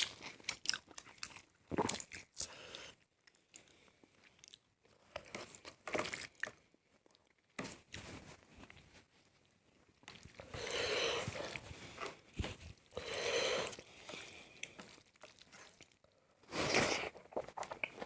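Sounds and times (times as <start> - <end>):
person chewing and crunching: 0.0 - 8.0, 9.7 - 18.0.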